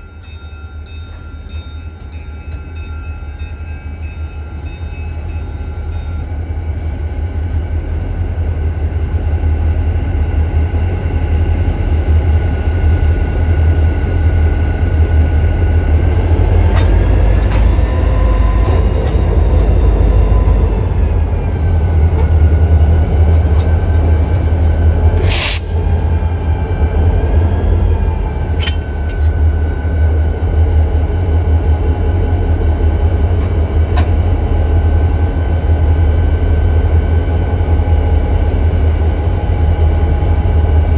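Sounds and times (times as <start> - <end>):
diesel locomotive rumble: 5.0 - 40.9.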